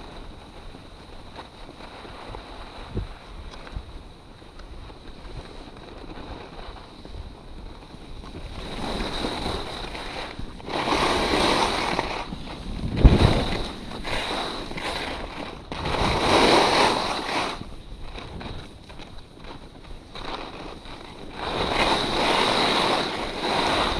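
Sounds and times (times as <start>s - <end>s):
skis scraping over snow: 0.0s - 23.9s
wind buffeting microphone: 0.0s - 23.9s.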